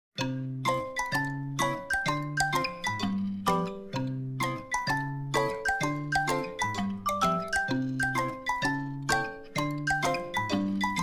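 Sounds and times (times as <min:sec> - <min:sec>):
bell-like melody: 0:00.2 - 0:11.0.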